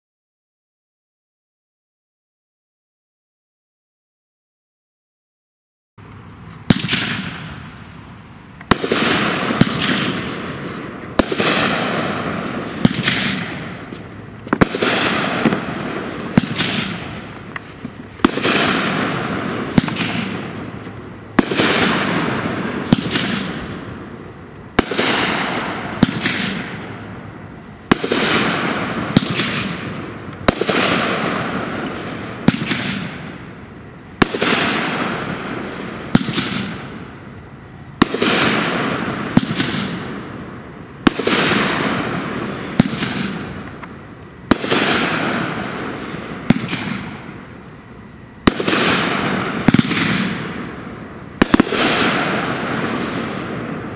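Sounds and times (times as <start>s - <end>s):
firework shots bang and hiss: 6.5s - 53.9s.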